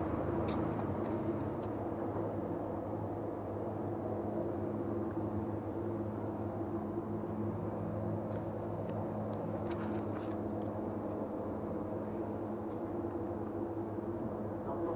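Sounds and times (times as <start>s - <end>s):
low engine hum: 0.0s - 14.9s
tyres rumbling on road: 0.0s - 14.9s.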